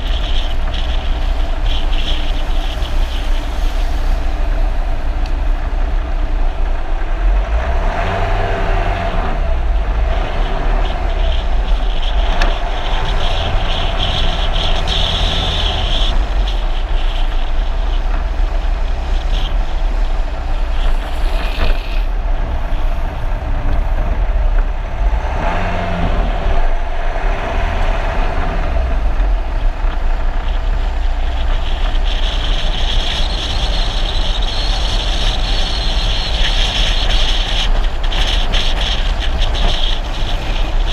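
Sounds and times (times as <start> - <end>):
car road rumble: 0.0 - 40.9
wind: 0.0 - 40.9.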